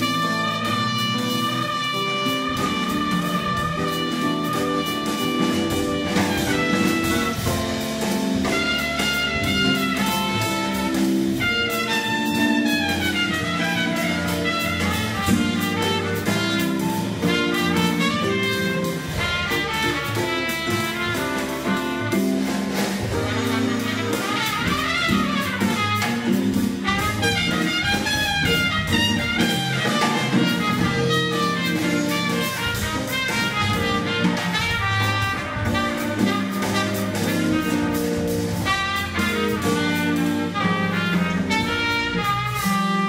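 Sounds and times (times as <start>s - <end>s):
jazz band playing: 0.0s - 43.0s
trumpet: 0.0s - 43.0s.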